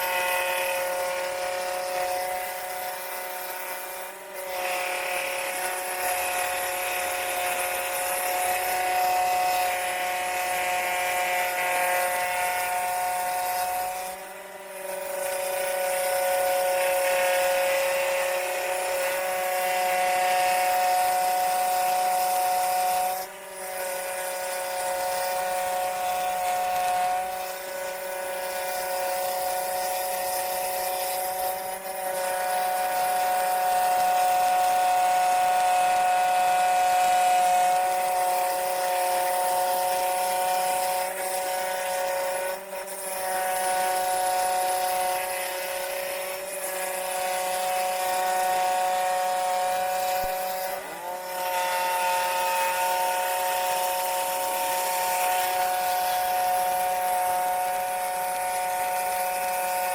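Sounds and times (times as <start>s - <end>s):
scroll saw cutting wood: 0.0s - 59.9s.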